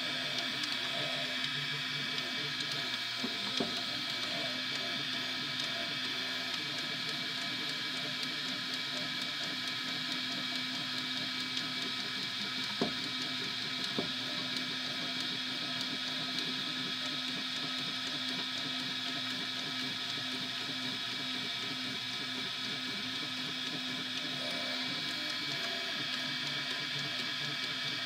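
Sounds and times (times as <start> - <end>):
fan hiss and hum: 0.0 - 28.0
printer motors whirring: 0.0 - 28.0.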